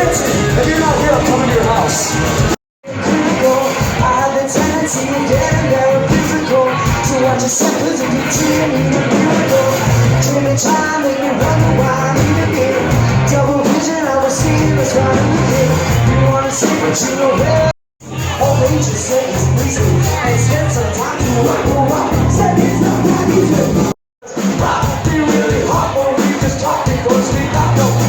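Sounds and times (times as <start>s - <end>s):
steady drum beat: 0.0s - 16.3s, 17.5s - 28.0s
rock-pop song with singing: 0.0s - 28.0s.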